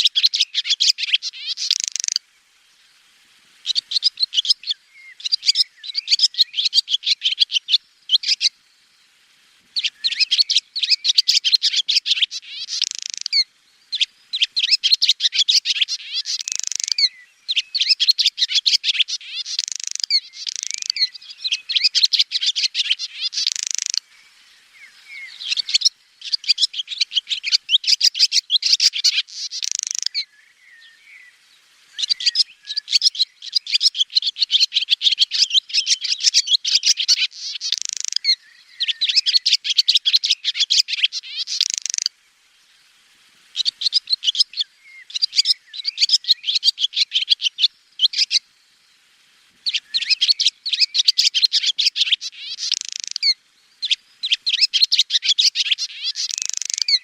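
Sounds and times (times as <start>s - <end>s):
swallow twittering: 0.0s - 2.2s, 3.6s - 8.6s, 9.8s - 42.1s, 43.5s - 48.4s, 49.6s - 57.0s.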